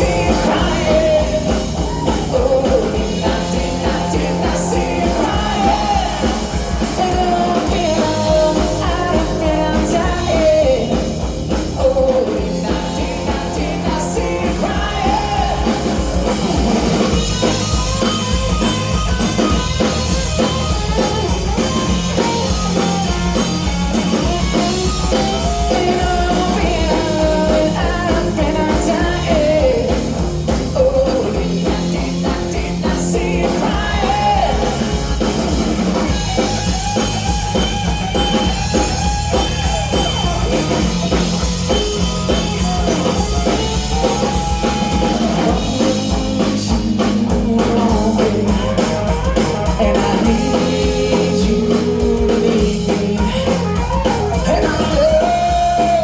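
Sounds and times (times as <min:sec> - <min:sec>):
person singing: 0:00.0 - 0:17.7, 0:24.1 - 0:36.5, 0:38.2 - 0:56.0
bass guitar: 0:00.0 - 0:56.0
drum kit: 0:00.0 - 0:56.0
electric guitar: 0:00.0 - 0:56.0.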